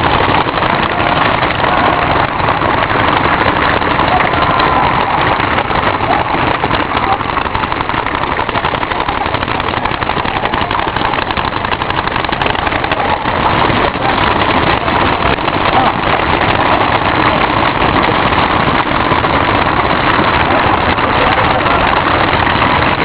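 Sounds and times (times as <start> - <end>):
paintball markers firing: 0.0 - 23.0.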